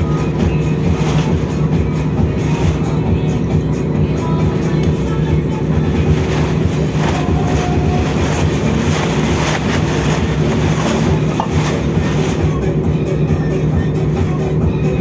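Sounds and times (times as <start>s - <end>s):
machinery drone: 0.0s - 15.0s.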